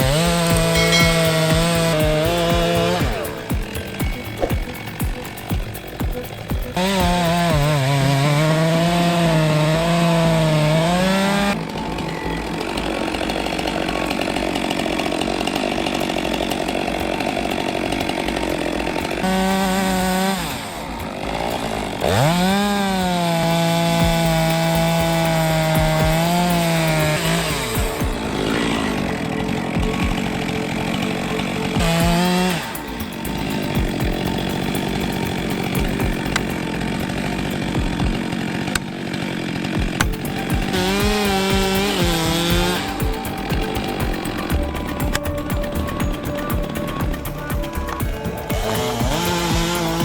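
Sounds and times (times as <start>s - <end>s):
chainsaw cutting wood: 0.0s - 50.0s
rough rasping noise: 0.0s - 50.0s.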